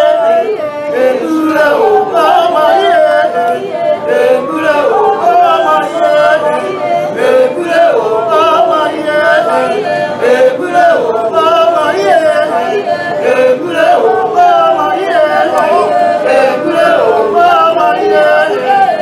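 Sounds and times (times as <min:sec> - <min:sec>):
group of people singing: 0:00.0 - 0:19.0.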